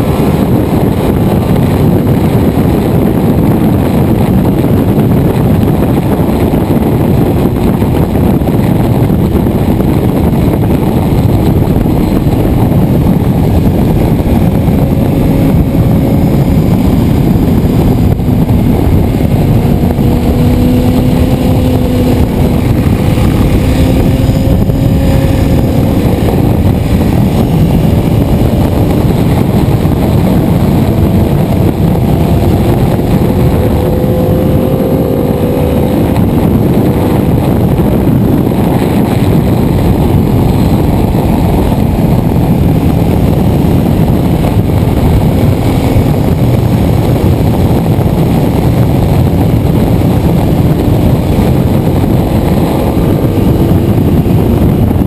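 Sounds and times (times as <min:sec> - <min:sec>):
motorcycle engine revving: 0:00.0 - 0:55.0
wind rush on microphone: 0:00.0 - 0:55.0.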